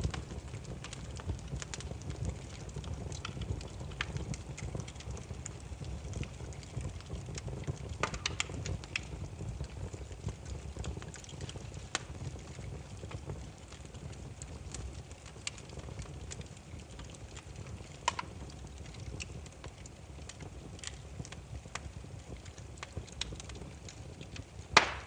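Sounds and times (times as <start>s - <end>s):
firewood crackling and popping: 0.0s - 25.0s
low rumble of fire: 0.0s - 25.0s.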